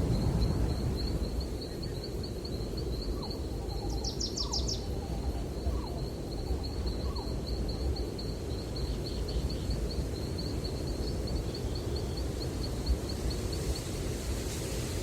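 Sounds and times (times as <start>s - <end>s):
low rumble of breeze: 0.0s - 15.0s.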